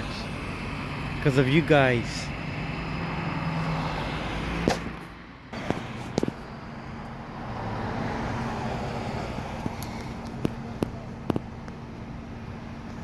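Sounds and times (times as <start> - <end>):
road traffic noise: 0.0 - 13.0
vehicle engine running: 0.0 - 13.0.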